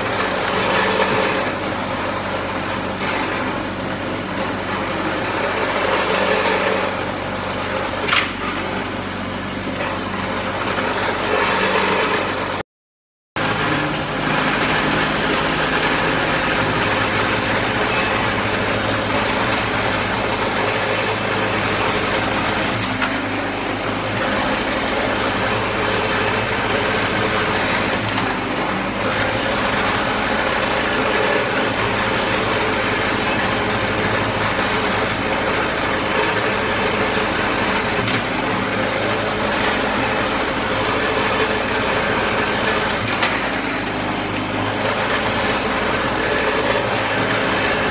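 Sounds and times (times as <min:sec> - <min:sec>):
gas engine running: 0:00.0 - 0:12.6, 0:13.4 - 0:47.9.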